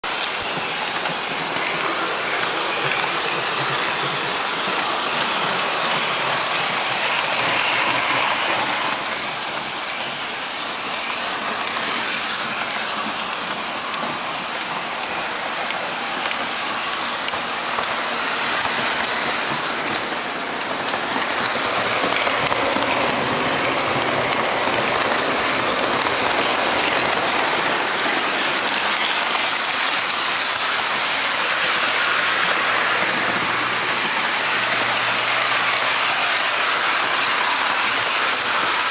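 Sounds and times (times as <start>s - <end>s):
model train wheels rattling on rails: 0.0s - 38.9s.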